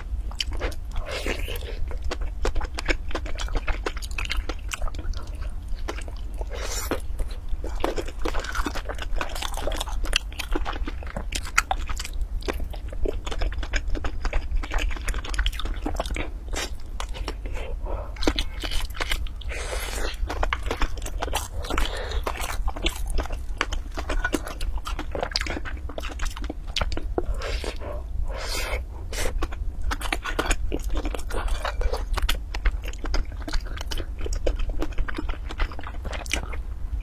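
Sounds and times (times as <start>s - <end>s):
person chewing: 0.0s - 36.6s
steady low hum: 0.0s - 37.0s.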